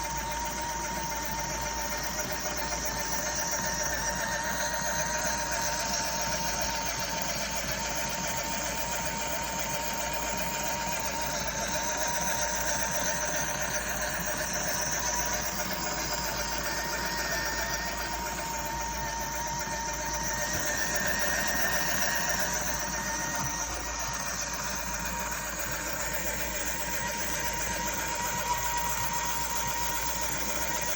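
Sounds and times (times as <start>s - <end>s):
small electric motor whining: 0.0s - 30.9s.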